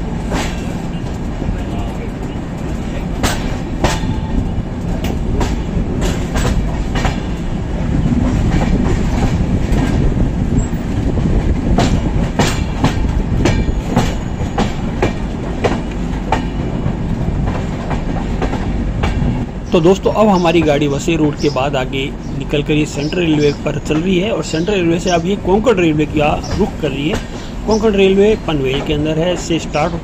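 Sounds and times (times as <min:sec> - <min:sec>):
train coaches rumbling: 0:00.0 - 0:30.0
wheels clacking over track: 0:00.1 - 0:30.0.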